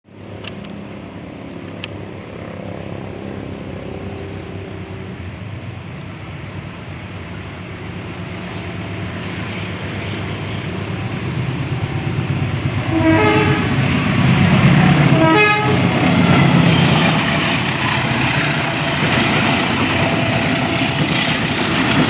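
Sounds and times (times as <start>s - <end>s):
diesel locomotive engine drone: 0.1s - 22.0s.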